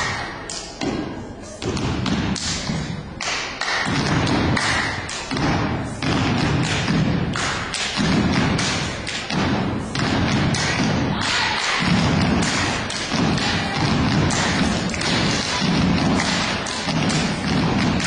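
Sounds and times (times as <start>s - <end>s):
stomps and claps in rhythm: 0.0s - 18.0s.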